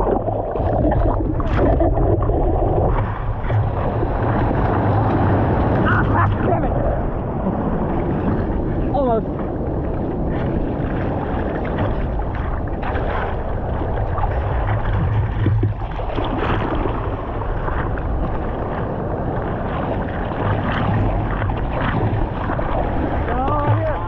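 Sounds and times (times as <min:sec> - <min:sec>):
sea water rushing and splashing: 0:00.0 - 0:24.0
wind rumble on microphone: 0:00.0 - 0:24.0.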